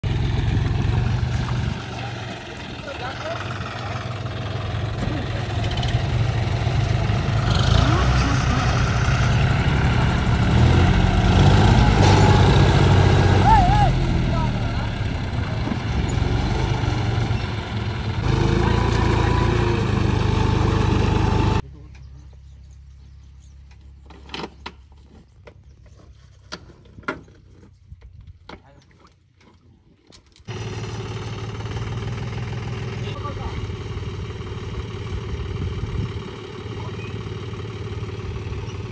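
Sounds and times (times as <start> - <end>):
tractor diesel engine running: 0.0 - 24.0, 30.5 - 38.9.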